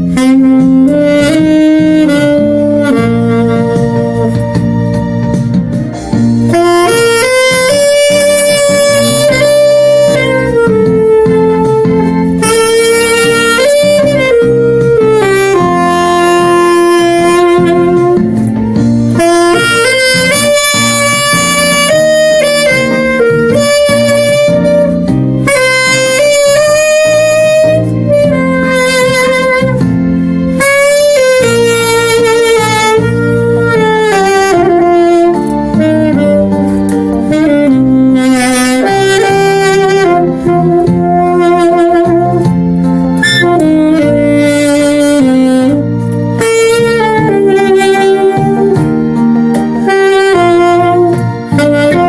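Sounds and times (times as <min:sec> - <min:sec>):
alto saxophone melody: 0:00.0 - 0:52.0
low accompaniment: 0:00.0 - 0:52.0.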